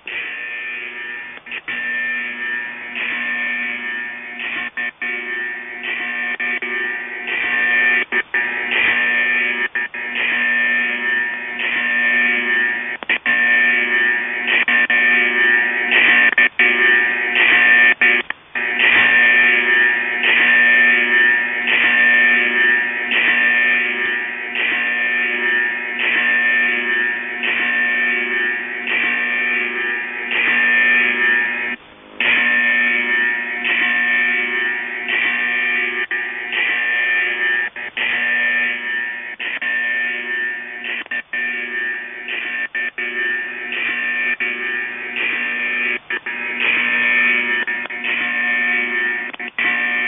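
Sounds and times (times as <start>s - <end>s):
steady radio tones: 0.0s - 50.0s.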